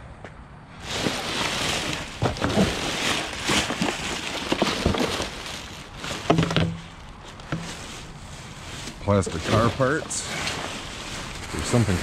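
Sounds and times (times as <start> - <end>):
plastic sheeting crinkling: 0.8 - 12.0.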